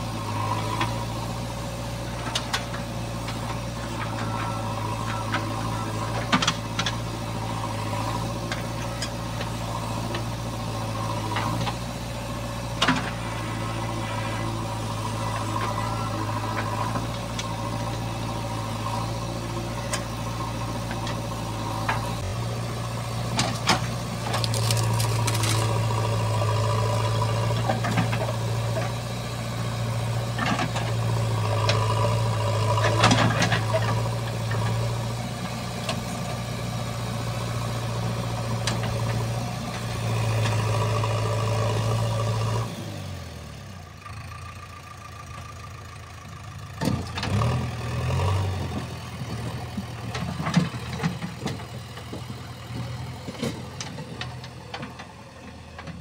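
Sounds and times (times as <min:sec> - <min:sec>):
diesel engine under hydraulic load: 0:00.0 - 0:56.0.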